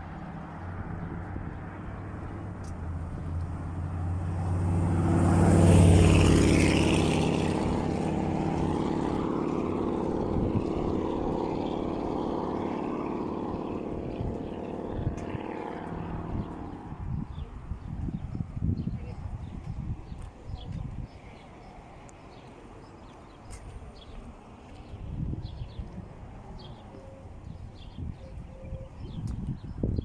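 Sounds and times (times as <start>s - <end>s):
engine passing by: 0.0s - 30.0s.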